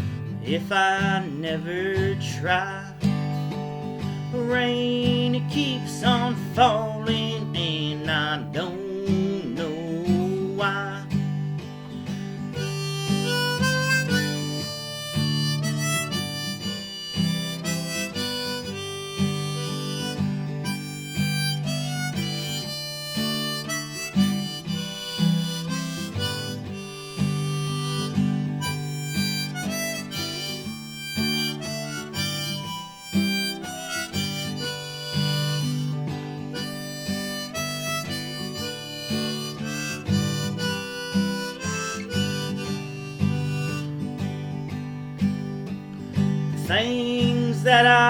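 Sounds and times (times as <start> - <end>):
strummed acoustic guitar: 0.0 - 48.0
harmonica melody: 0.2 - 48.0.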